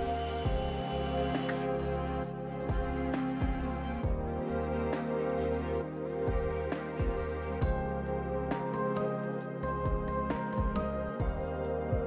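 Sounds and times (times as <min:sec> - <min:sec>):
soft new-age music: 0:00.0 - 0:12.0.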